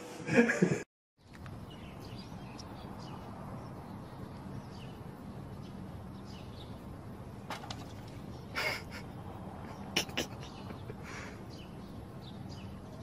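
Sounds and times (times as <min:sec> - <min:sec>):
bird chirps: 0:01.2 - 0:06.9, 0:07.6 - 0:13.0.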